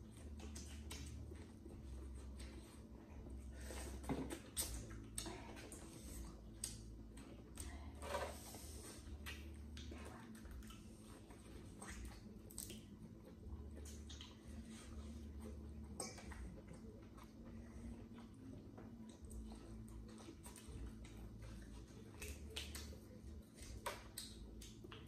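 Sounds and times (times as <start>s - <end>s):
chewing and biting: 0.0s - 7.9s, 8.8s - 25.0s.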